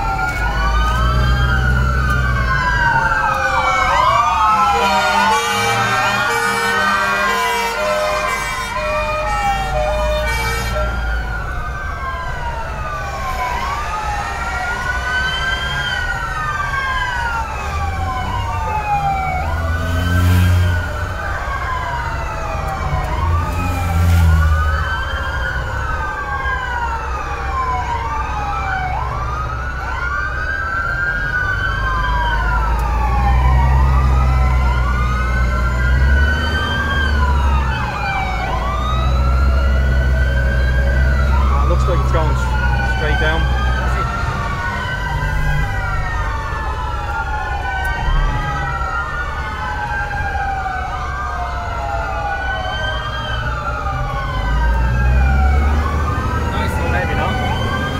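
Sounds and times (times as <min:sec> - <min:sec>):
fire engine sirens wailing: 0:00.0 - 0:57.9.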